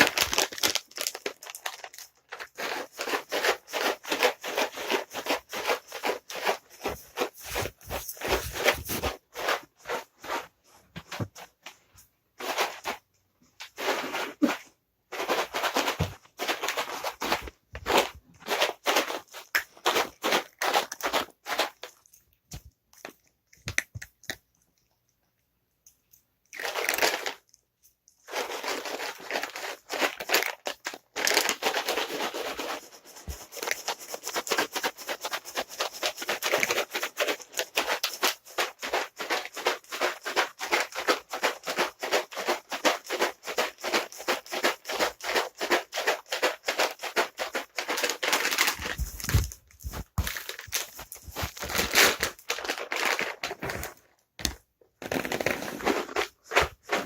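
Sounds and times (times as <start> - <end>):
cat treats rattling in container: 0.0 - 10.2, 15.2 - 24.4, 26.4 - 27.6, 28.2 - 54.0.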